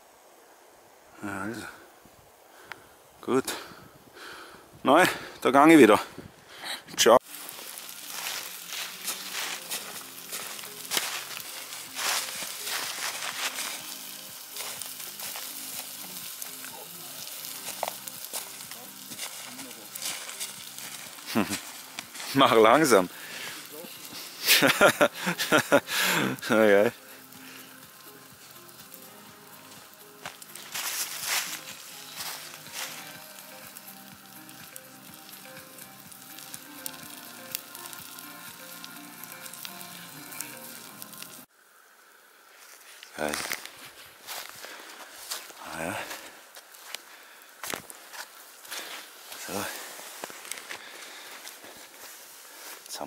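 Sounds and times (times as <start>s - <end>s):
campfire crackling and popping: 0.6s - 53.0s.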